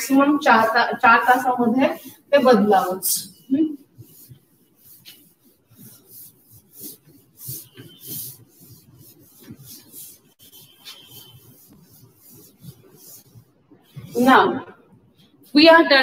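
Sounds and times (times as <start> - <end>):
duster wiping a blackboard: 0.0 - 14.7.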